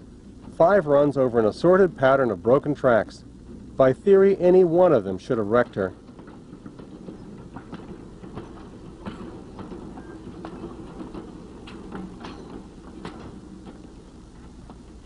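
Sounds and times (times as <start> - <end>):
clicks and knocks of rail cars: 0.0 - 15.0
freight cars rumbling on track: 0.0 - 15.0.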